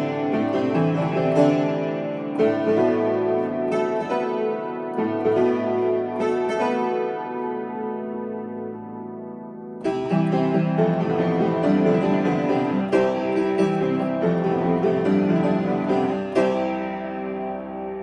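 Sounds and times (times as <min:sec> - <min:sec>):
upright piano chords and melody: 0:00.0 - 0:18.0.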